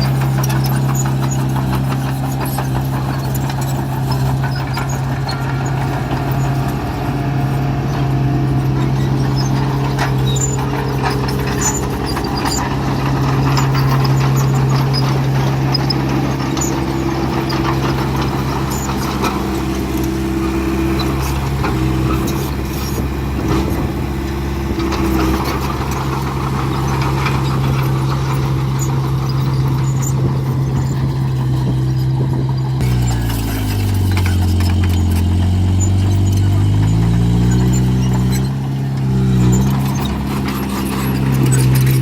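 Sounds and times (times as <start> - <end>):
diesel engines running: 0.0 - 42.0.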